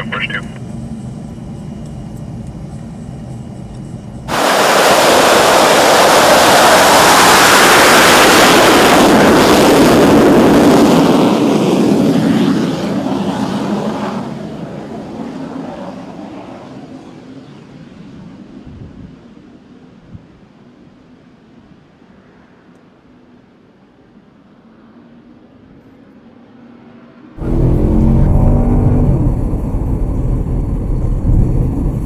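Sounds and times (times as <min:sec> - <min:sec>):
jet engine roar: 0:00.0 - 0:20.0, 0:24.0 - 0:32.0.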